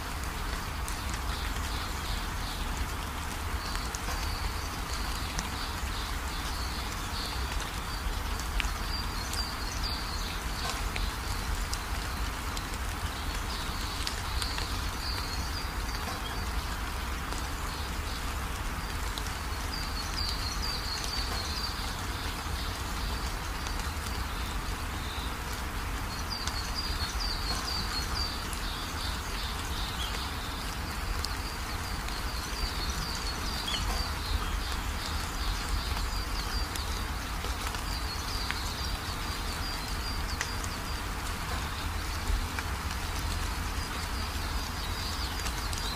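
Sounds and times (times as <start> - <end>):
outdoor ambience hiss: 0.0 - 45.9.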